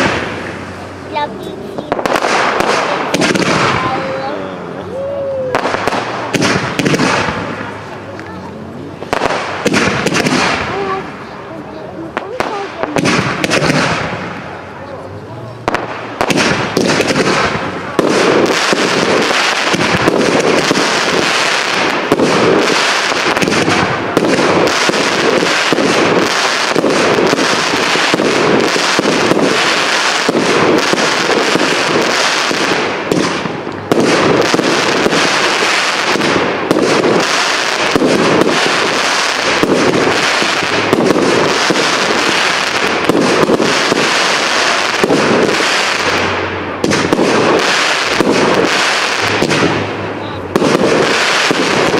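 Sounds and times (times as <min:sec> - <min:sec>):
fireworks booms: 0:00.0 - 0:51.9
fireworks crackling: 0:00.0 - 0:51.9.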